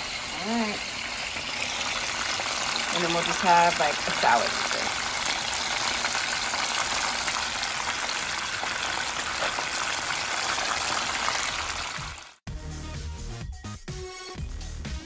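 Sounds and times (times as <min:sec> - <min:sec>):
fish frying in hot oil: 0:00.0 - 0:12.4.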